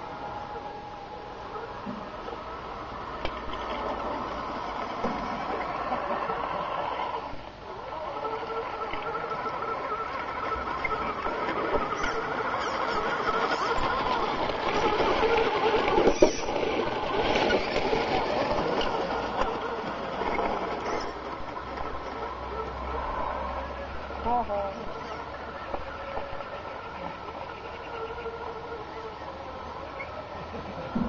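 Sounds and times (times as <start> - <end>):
model truck motor and gears: 0.0 - 31.0
tyres on gravel: 1.6 - 31.0.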